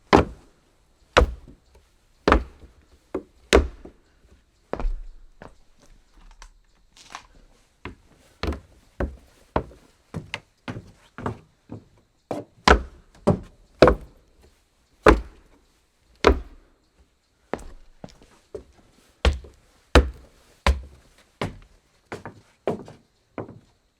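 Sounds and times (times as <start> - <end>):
footsteps on wooden boards: 0.1 - 0.5, 1.1 - 1.6, 2.2 - 14.2, 15.1 - 15.6, 16.2 - 16.7, 17.5 - 23.7.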